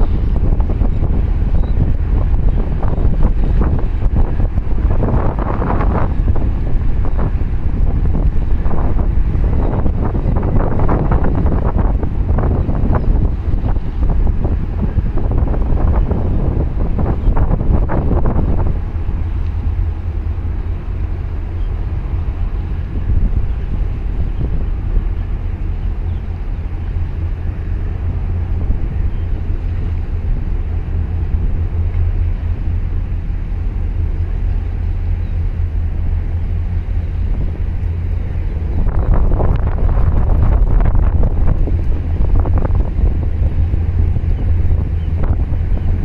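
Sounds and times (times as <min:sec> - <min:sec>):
engine-like drone: 0:00.0 - 0:46.0
wind buffeting microphone: 0:00.0 - 0:46.0.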